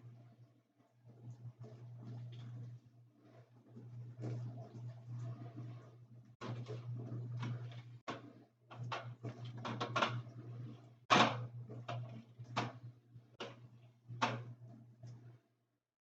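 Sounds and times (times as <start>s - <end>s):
refrigerator hum: 0.0s - 15.6s.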